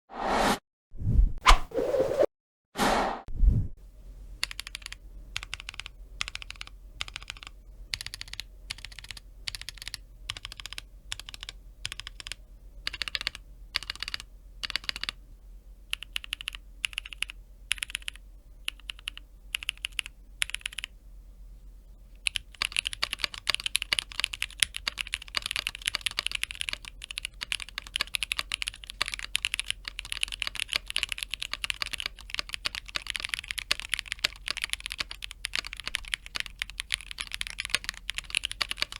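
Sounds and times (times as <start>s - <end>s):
mechanical keyboard typing: 4.4s - 15.2s, 15.9s - 20.9s, 22.2s - 38.9s.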